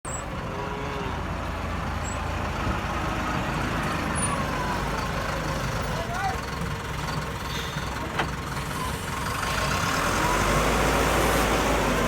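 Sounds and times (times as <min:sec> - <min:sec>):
diesel engine running: 0:00.1 - 0:12.0.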